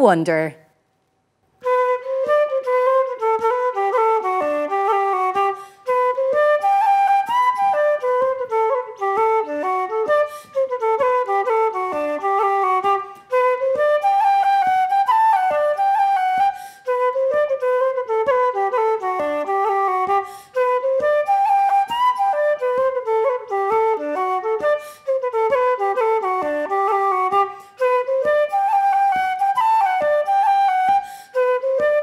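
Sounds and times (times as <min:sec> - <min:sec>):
wooden flute melody: 0:01.6 - 0:32.0.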